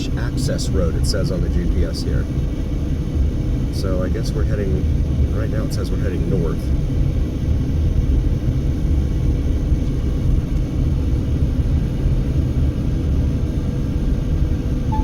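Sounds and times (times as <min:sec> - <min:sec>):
faint steady hum: 0:00.0 - 0:15.0
road noise inside car: 0:00.0 - 0:15.0
strong wind outside: 0:00.0 - 0:15.0.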